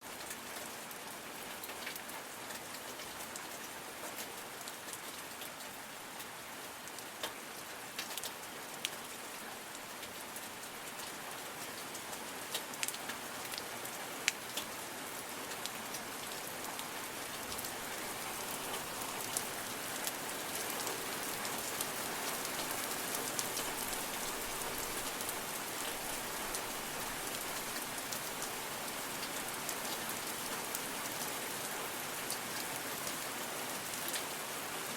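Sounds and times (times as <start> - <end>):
steady rain: 0.0 - 34.9
raindrops clicking close by: 0.1 - 34.5.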